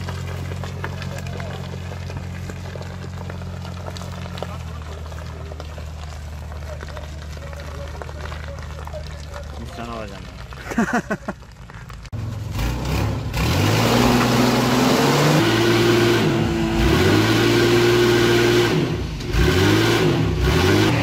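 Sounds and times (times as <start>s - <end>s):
off-road vehicle engine revving: 0.0s - 10.5s, 12.1s - 21.0s.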